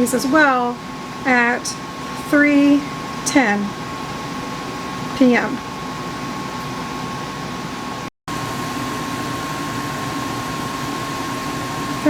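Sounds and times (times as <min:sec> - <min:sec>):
air conditioner air rush: 0:00.0 - 0:12.0.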